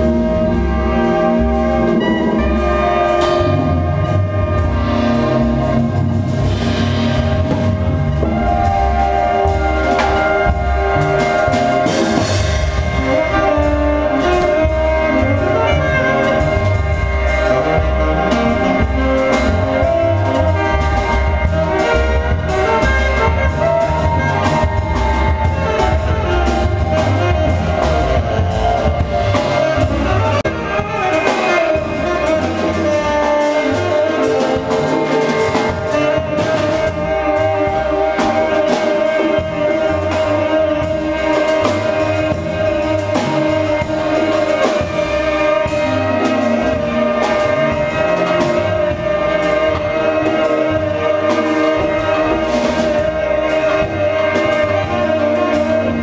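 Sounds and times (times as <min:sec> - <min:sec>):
drum kit: 0:00.0 - 0:56.0
saxophone lead line: 0:00.0 - 0:56.0
upright bass: 0:00.0 - 0:56.0.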